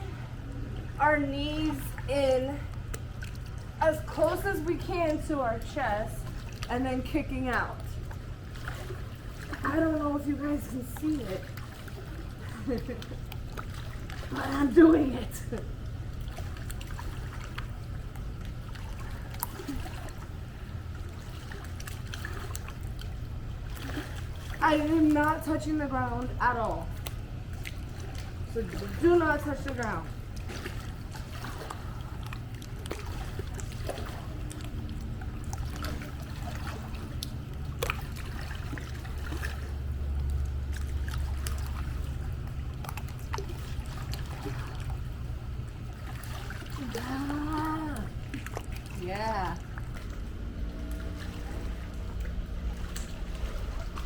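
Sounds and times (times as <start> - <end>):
pool water sloshing: 0.0 - 54.0
steady low rumble: 0.0 - 54.0
small water splashes: 1.6 - 54.0.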